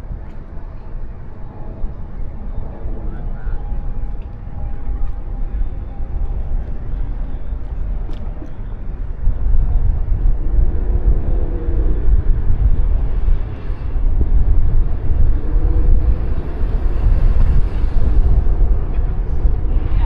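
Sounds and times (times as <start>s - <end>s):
motorbike road noise: 0.0s - 20.0s
wind buffeting microphone: 0.0s - 20.0s.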